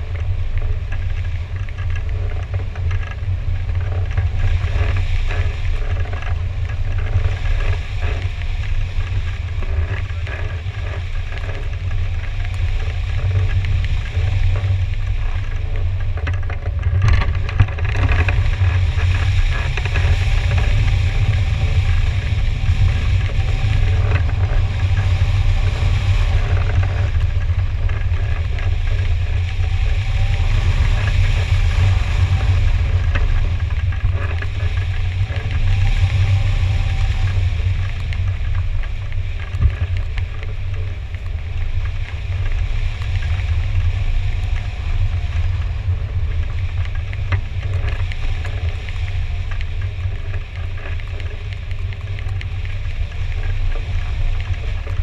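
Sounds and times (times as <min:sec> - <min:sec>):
wind rumble and hiss: 0:00.0 - 0:55.0.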